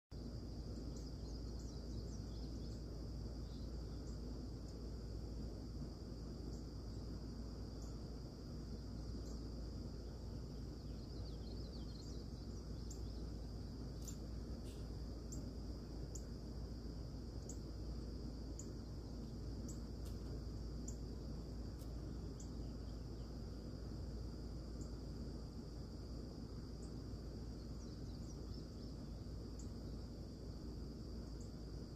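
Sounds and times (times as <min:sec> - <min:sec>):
insects trilling: 0:00.2 - 0:31.9.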